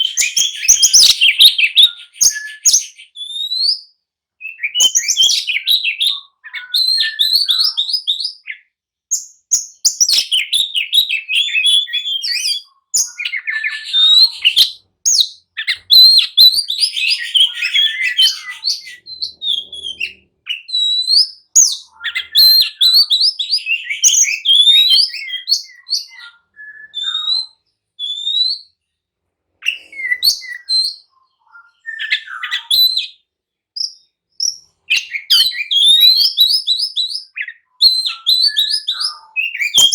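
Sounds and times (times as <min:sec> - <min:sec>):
bird singing whistles and chirps: 0:00.0 - 0:28.8, 0:29.6 - 0:39.9.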